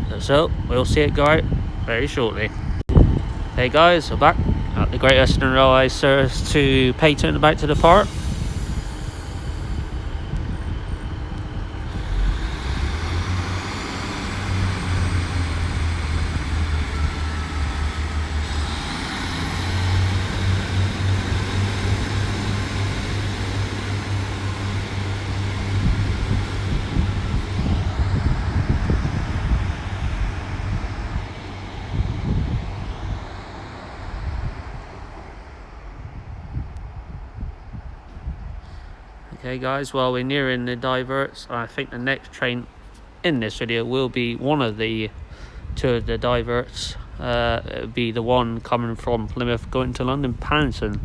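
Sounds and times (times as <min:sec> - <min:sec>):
thin high whine: 0:00.0 - 0:46.5
train diesel engines revving: 0:00.0 - 0:48.4.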